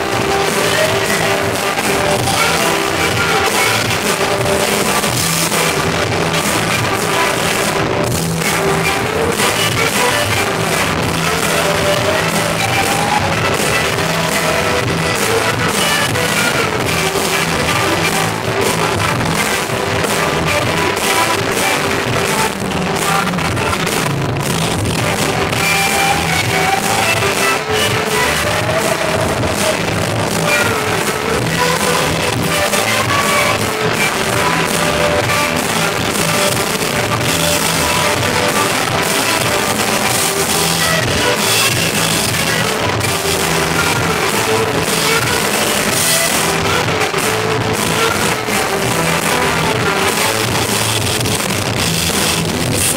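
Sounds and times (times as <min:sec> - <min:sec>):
live rock band: 0:00.0 - 0:52.9.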